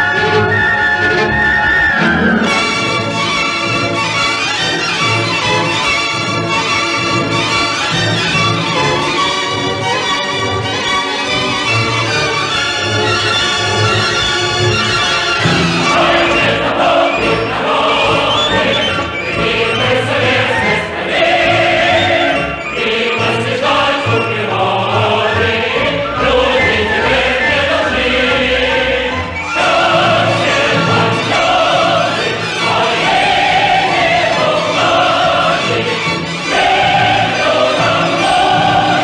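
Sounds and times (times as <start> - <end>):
choir singing: 0.0 - 10.1, 10.8 - 39.0
orchestra playing: 0.0 - 39.0.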